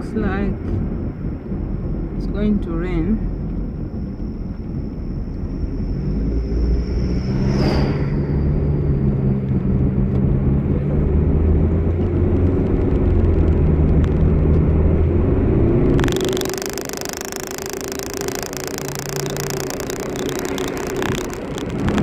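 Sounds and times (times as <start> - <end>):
car engine hum: 0.0 - 22.0
road rumble: 0.0 - 22.0.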